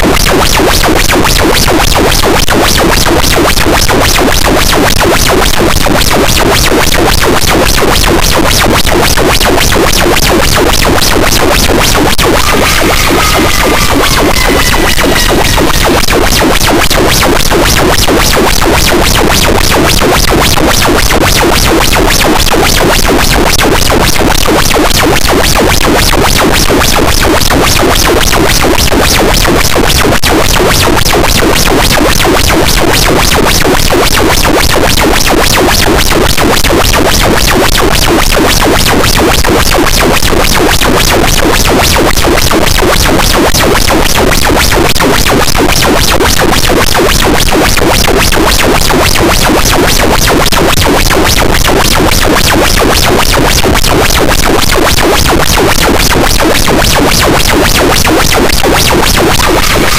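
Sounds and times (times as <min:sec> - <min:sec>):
distorted pulsing static noise: 0:00.0 - 0:59.9.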